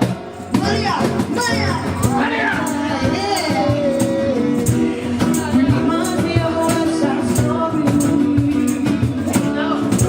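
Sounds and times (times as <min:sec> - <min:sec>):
live band playing latin pop: 0:00.0 - 0:10.0
person singing: 0:01.4 - 0:10.0.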